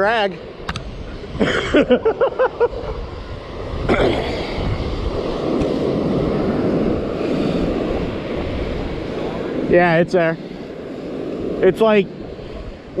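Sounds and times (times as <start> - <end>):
breaking surf: 0.0 - 13.0
strong wind on microphone: 0.0 - 13.0.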